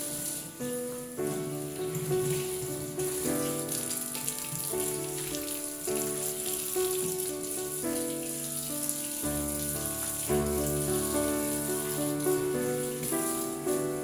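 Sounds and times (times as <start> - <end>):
gentle held chords music: 0.0 - 14.0
water running hiss: 0.0 - 14.0.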